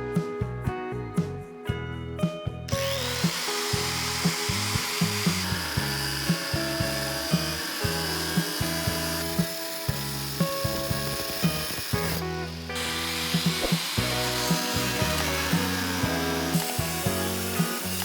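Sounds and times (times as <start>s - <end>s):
background music with beat: 0.0s - 18.0s
high-speed power tool whine: 2.7s - 18.0s.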